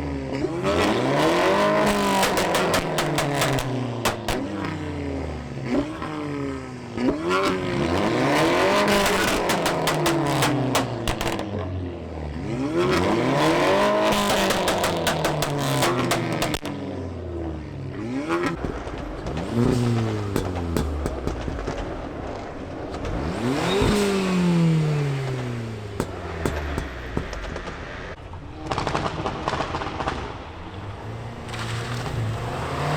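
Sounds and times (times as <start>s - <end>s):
car engine revving: 0.2s - 17.3s, 17.9s - 32.9s
exhaust crackles: 0.2s - 32.9s.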